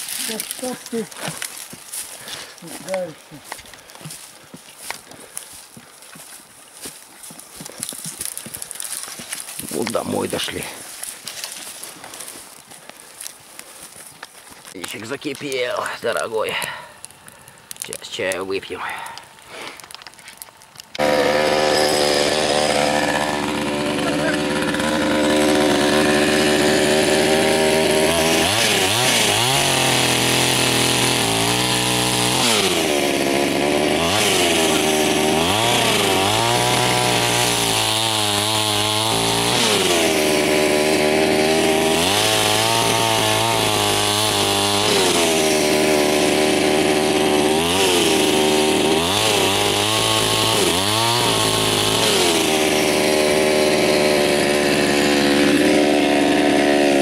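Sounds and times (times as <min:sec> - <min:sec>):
chainsaw revving and cutting log: 0:00.0 - 0:13.7, 0:20.8 - 0:57.0.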